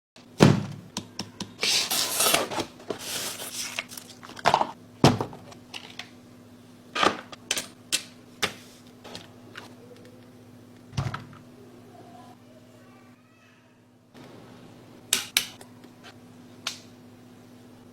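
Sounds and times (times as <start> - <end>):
faint steady hum: 0.8 - 17.9.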